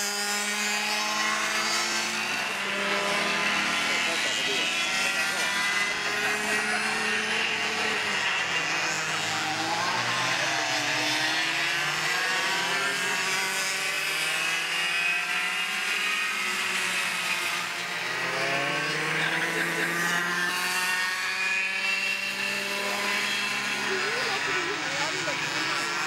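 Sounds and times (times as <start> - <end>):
go-kart engine at high revs: 0.0 - 26.0.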